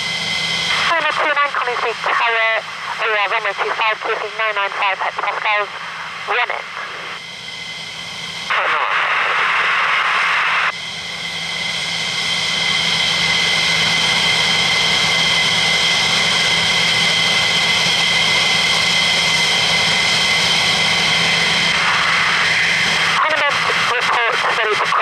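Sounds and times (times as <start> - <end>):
jet engine whine with hiss: 0.0 - 25.0.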